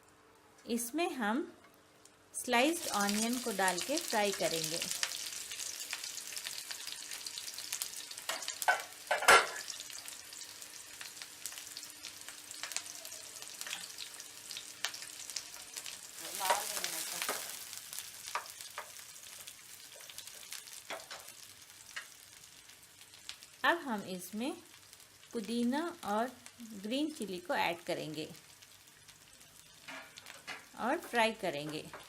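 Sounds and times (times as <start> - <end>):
onions sizzling in oil: 2.4 - 32.0.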